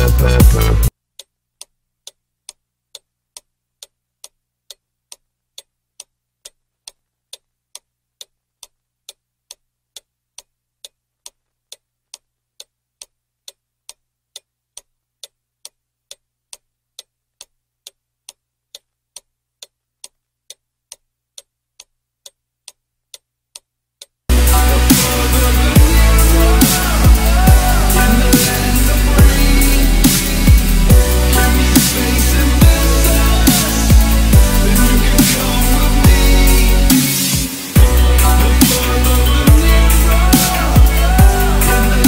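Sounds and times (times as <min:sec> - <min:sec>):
clock ticking: 0:00.0 - 0:42.0.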